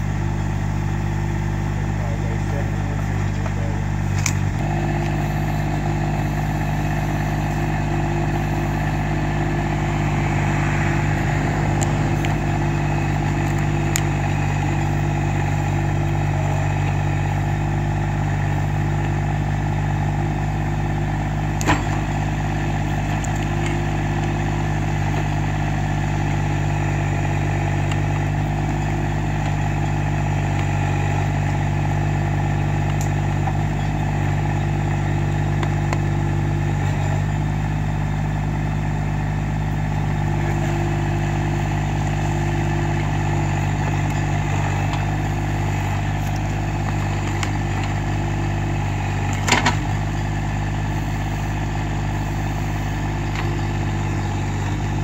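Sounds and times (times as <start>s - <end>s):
higher hum: 0.0s - 55.0s
tractor diesel engine running: 0.0s - 55.0s.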